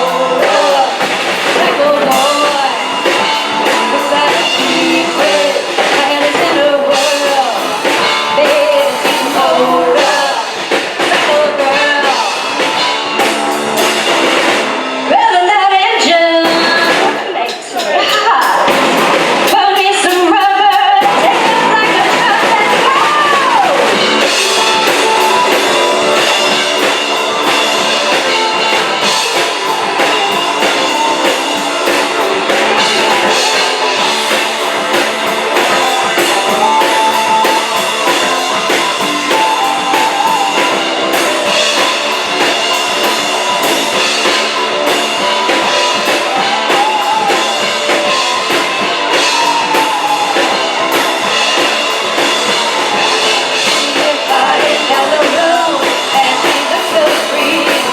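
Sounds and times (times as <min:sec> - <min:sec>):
drum kit: 0:00.0 - 0:57.9
electric guitar: 0:00.0 - 0:57.9.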